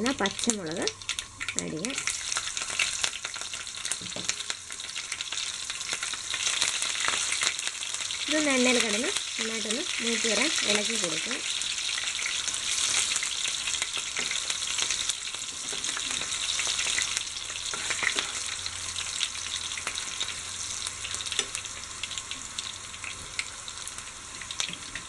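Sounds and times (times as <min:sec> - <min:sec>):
chillies sizzling in oil: 0:00.0 - 0:25.0.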